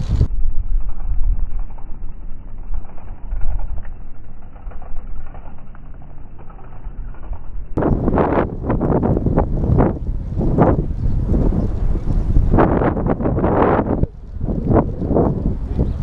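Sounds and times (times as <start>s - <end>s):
wind buffeting microphone: 0.0s - 5.4s, 7.7s - 16.0s.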